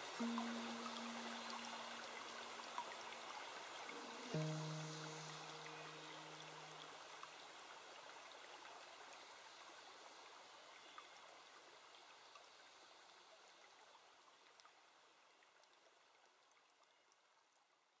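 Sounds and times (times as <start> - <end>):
stream running: 0.0 - 17.3.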